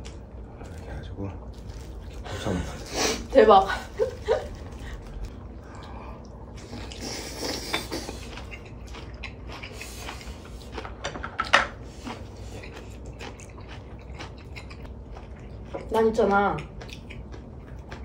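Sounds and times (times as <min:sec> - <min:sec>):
person chewing food: 0:00.0 - 0:03.3, 0:03.9 - 0:16.0, 0:16.6 - 0:18.0.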